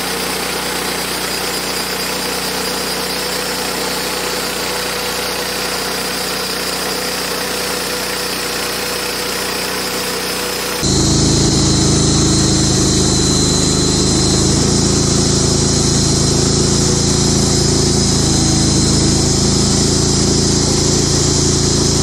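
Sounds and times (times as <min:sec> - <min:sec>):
high blade whine: 0:00.0 - 0:22.0
sawmill engine running under load: 0:00.0 - 0:22.0.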